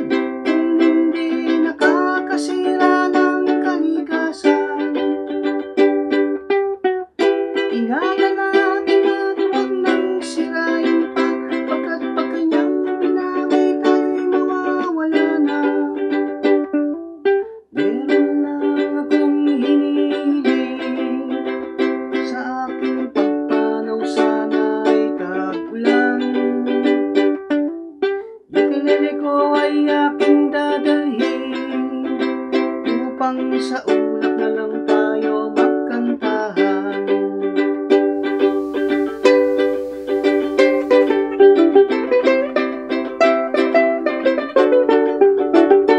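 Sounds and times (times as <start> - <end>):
ukulele strumming chords: 0.0 - 45.9.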